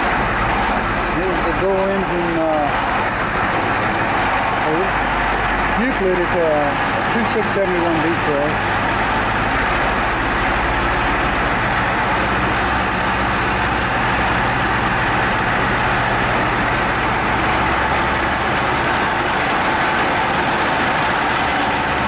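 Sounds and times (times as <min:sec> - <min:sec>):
road and air noise: 0:00.0 - 0:22.0
vehicle engine hum: 0:00.0 - 0:22.0.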